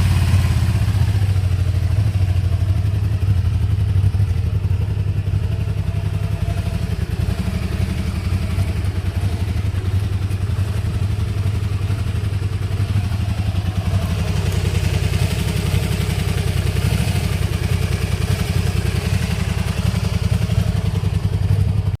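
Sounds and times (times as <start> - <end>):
motorcycle engine running low throb: 0.0 - 22.0.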